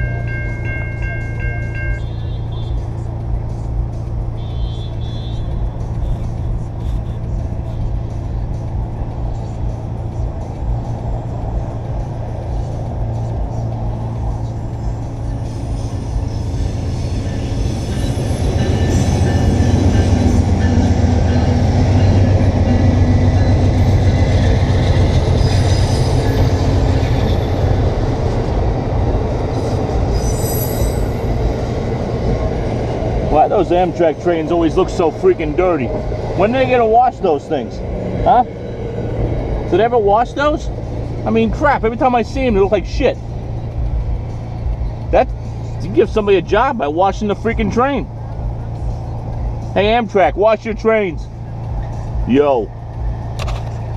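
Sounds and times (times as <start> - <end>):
train passing: 0.0 - 53.9.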